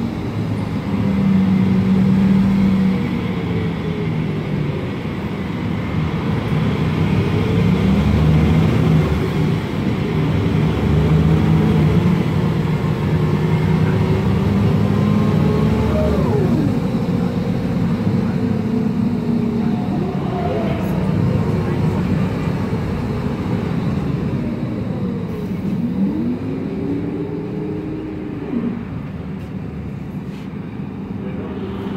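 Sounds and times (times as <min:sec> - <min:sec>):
bus engine running under load: 0:00.0 - 0:31.9.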